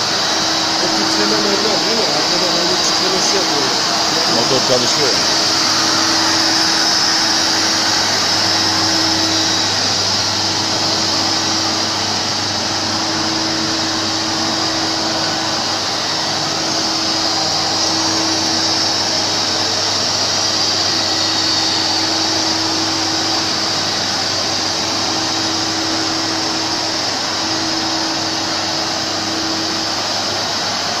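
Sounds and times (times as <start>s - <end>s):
floor scrubber whirring: 0.0s - 31.0s.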